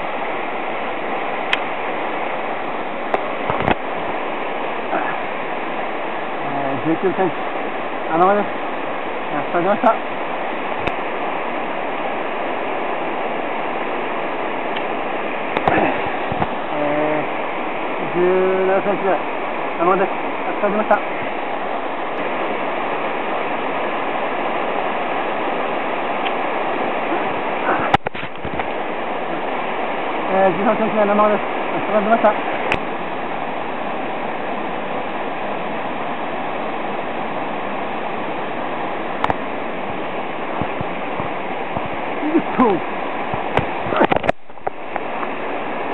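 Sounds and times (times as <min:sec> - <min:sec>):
mountain stream rushing: 0:00.0 - 0:45.9.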